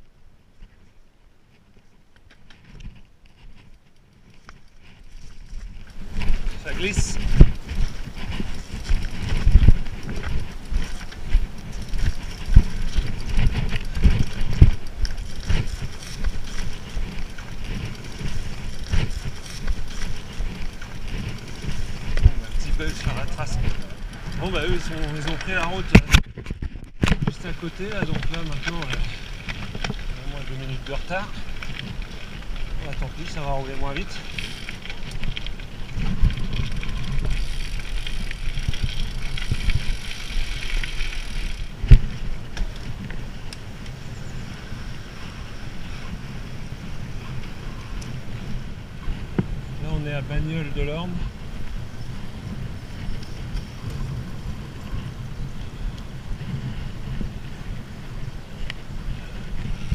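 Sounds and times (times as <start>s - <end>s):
bike rattling over stones: 1.5s - 59.9s
footsteps on loose ground: 1.5s - 59.9s.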